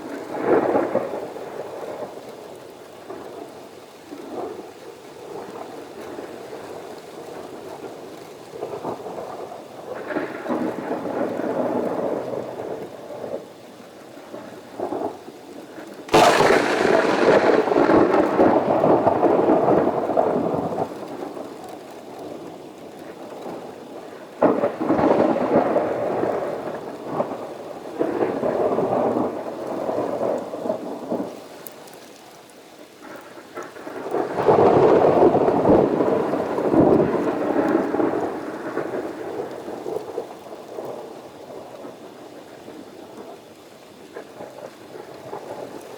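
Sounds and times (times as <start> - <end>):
rain: 0.0 - 45.9
thunder crack and rumble: 0.1 - 2.4, 5.2 - 13.5, 14.1 - 31.8, 33.1 - 45.9.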